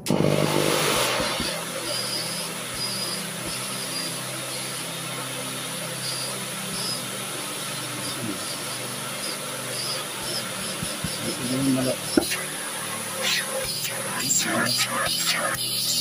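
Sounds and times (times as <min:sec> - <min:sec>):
vacuum cleaner motor running: 0:00.0 - 0:16.0.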